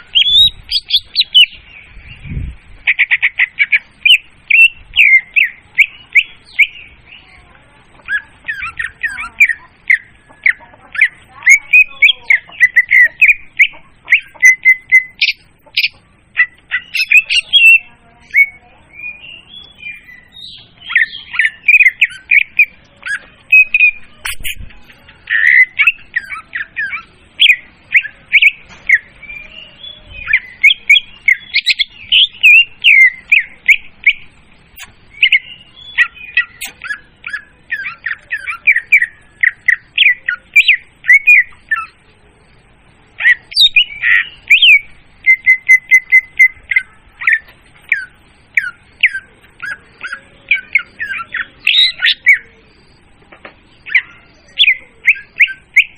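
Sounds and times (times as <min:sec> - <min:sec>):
bird chirps and whistles: 0:00.0 - 0:01.6, 0:02.2 - 0:06.9, 0:08.1 - 0:42.0, 0:43.2 - 0:53.0, 0:53.8 - 0:55.9.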